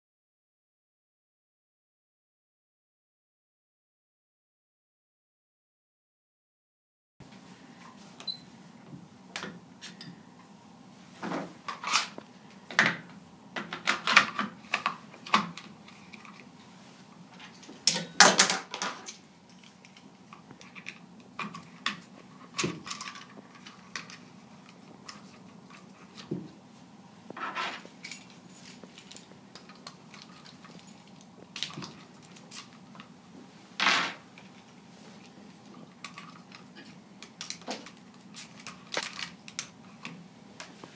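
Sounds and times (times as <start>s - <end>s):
faint steady hum: 7.2s - 40.9s.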